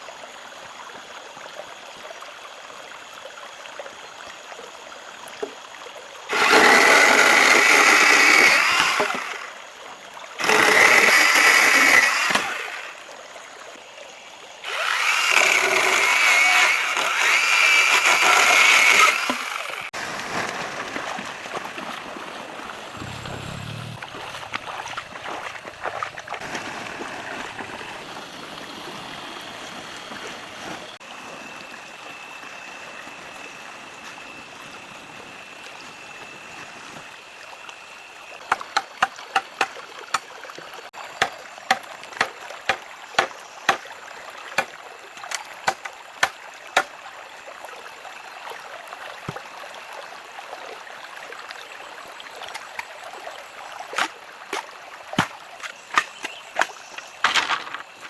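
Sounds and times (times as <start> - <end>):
flowing water hiss: 0.0 - 58.0.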